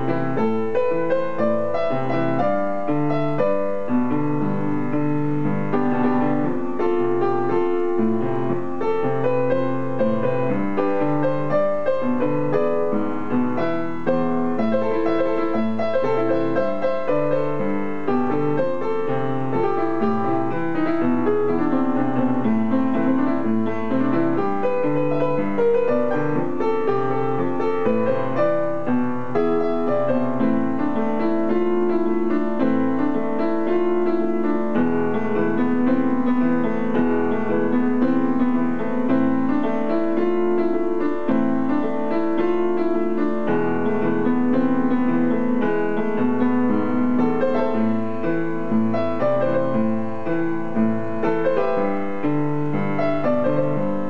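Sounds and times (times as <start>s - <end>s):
solo piano pop-rock song: 0.0s - 54.0s.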